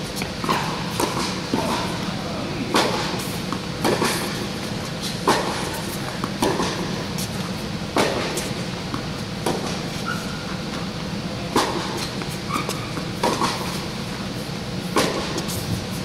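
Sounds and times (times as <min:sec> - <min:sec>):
steady low hum: 0:00.0 - 0:16.0
tennis balls struck by racquets: 0:00.1 - 0:14.0, 0:14.8 - 0:15.6.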